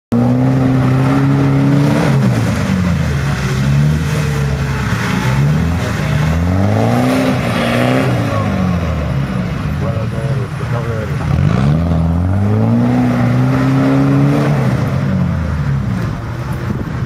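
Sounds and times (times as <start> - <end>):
engine revving under load: 0.1 - 17.0.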